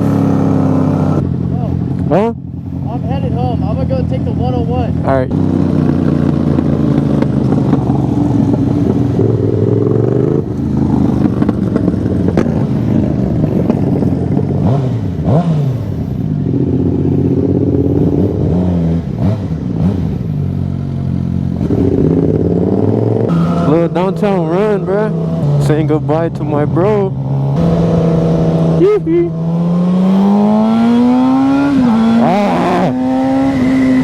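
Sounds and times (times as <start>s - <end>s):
loud motorcycle engine: 0.0s - 34.0s.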